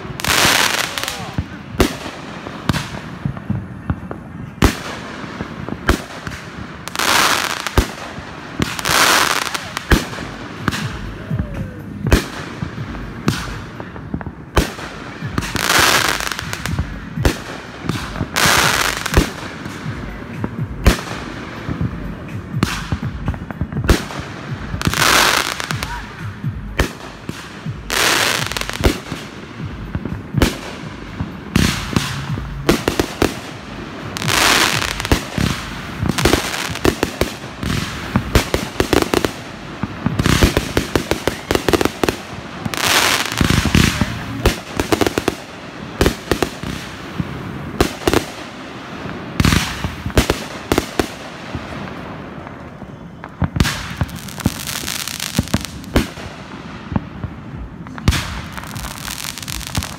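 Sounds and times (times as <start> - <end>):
firework hiss: 0.0 - 52.4
firework bangs: 0.0 - 59.9.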